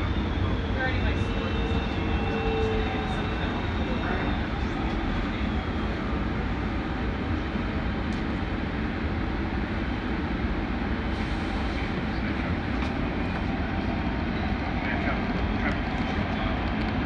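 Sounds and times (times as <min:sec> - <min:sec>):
light rail vehicle rumble and hum: 0:00.0 - 0:17.0.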